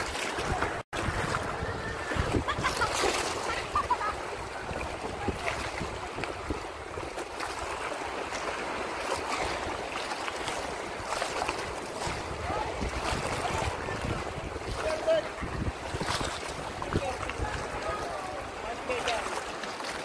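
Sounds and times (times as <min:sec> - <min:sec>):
wind buffeting microphone: 0:00.0 - 0:07.8, 0:09.2 - 0:18.7
sea water splashing: 0:00.0 - 0:20.0.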